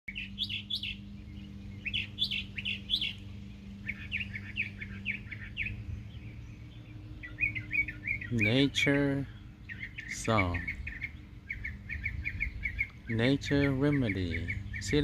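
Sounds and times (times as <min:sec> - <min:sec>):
low hum: 0:00.1 - 0:15.0
songbird chirping: 0:00.1 - 0:15.0.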